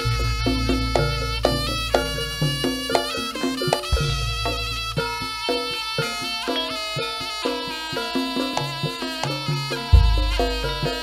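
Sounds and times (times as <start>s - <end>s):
gamelan-style ensemble music: 0.0s - 11.0s.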